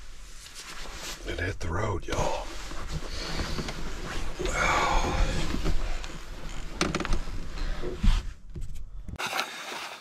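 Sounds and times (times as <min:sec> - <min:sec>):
rustling and handling noise: 0:00.0 - 0:01.3, 0:02.1 - 0:10.0.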